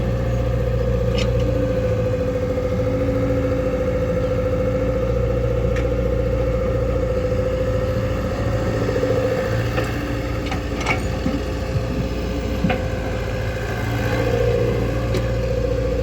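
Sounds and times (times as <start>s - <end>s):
diesel engine running steadily: 0.0s - 16.0s.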